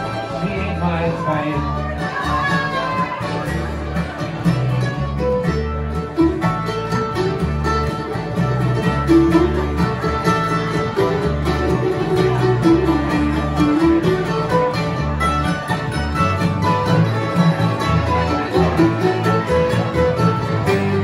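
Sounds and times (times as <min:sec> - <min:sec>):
bluegrass band playing: 0:00.0 - 0:21.0.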